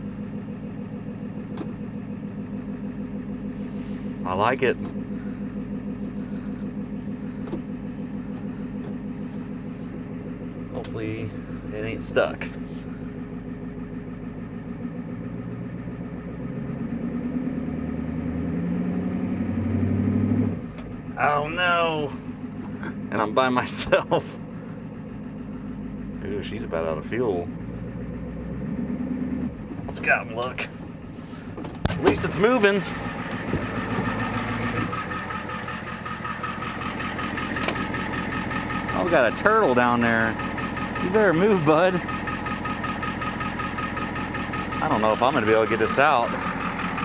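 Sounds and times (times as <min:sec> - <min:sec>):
diesel truck engine running: 0:00.0 - 0:47.0.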